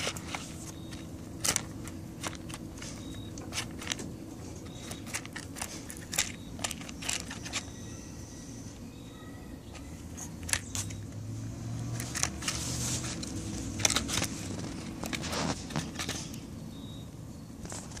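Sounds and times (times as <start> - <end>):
seeds and claws scraping plastic: 0.0 - 8.0, 9.7 - 16.5, 17.6 - 18.0.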